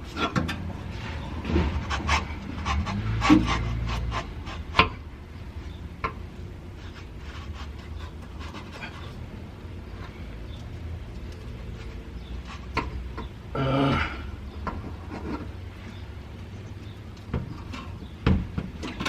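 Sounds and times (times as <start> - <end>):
metal knocks and scraping: 0.0 - 5.1, 5.7 - 13.4, 14.5 - 16.0, 16.6 - 19.0.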